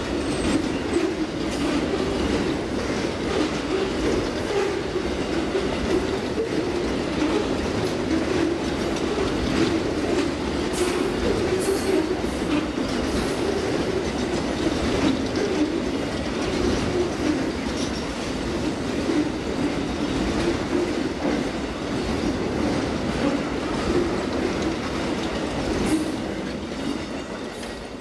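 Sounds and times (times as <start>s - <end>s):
train wheels running over rails: 0.0s - 28.0s.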